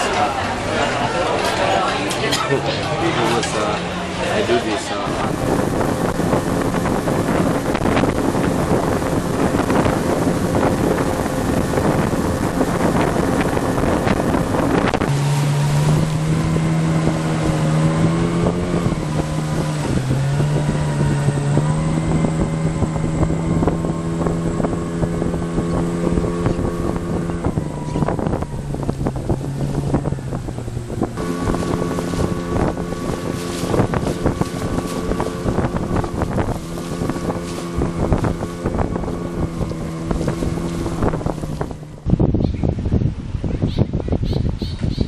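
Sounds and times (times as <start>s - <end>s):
engine running: 0.0s - 43.4s
wind rushing over microphone: 3.2s - 45.0s.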